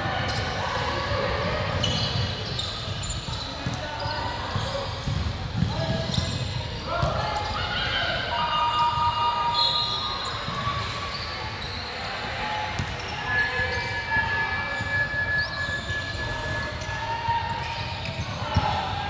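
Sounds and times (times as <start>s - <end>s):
voices in echoing hall: 0.0s - 19.0s
sneakers squeaking on floor: 1.4s - 8.0s, 8.6s - 18.9s.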